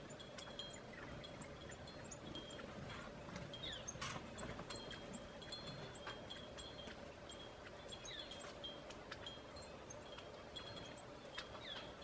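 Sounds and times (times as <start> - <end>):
wind chimes tinkling: 0.0 - 12.0.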